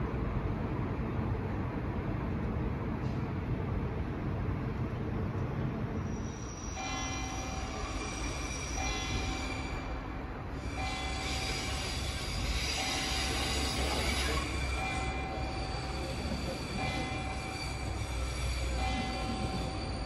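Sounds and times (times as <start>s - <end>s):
train rumble and rail noise: 0.0s - 20.0s.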